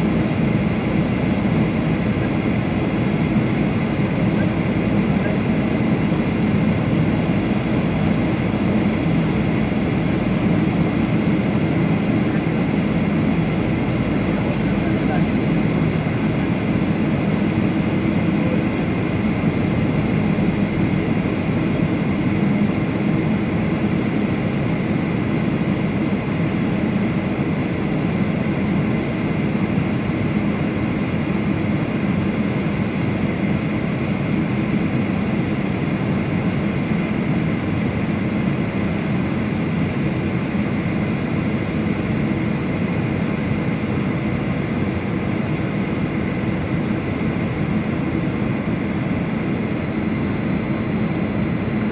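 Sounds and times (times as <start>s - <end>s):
jet engine cabin drone: 0.0s - 51.9s
thin steady whine: 0.0s - 51.9s.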